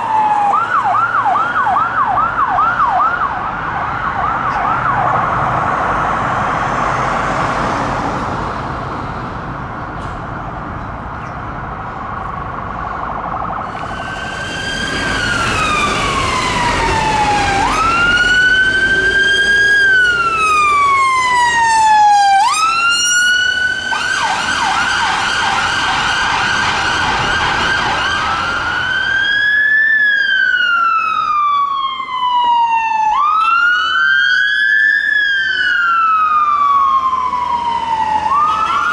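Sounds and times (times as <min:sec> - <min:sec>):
police siren fast yelp: 0:00.0 - 0:05.3, 0:12.9 - 0:38.9
ambulance siren wail: 0:00.0 - 0:08.8, 0:11.5 - 0:38.9
fire engine siren wail: 0:00.0 - 0:38.9.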